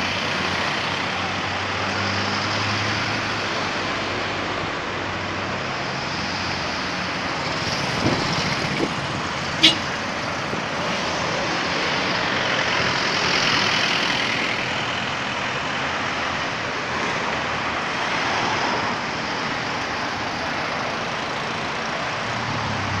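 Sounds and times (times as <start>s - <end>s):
road traffic hum: 0.0s - 23.0s.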